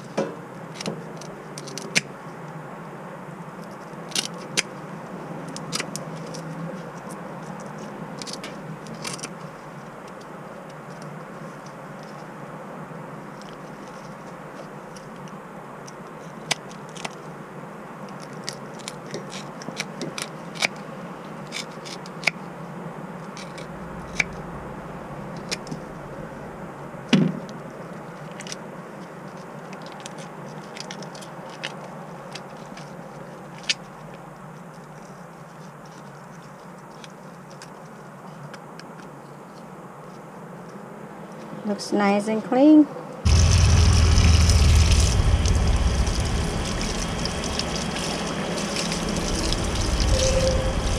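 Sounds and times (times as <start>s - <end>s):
steady background noise: 0.0s - 50.9s.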